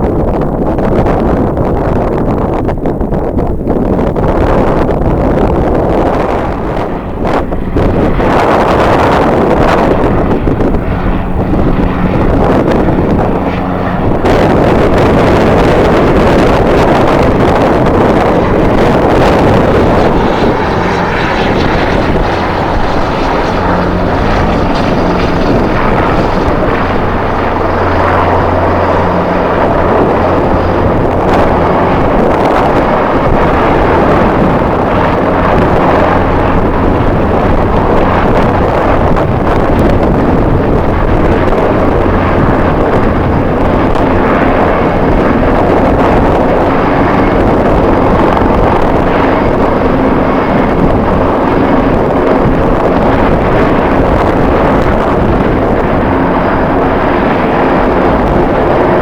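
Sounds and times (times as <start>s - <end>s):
jet airliner engine noise: 0.0s - 59.0s
wind buffeting microphone: 0.0s - 59.0s.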